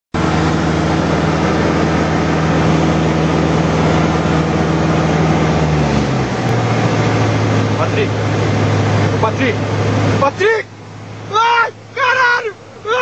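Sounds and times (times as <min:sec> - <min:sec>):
light aircraft engine droning: 0:00.2 - 0:13.0.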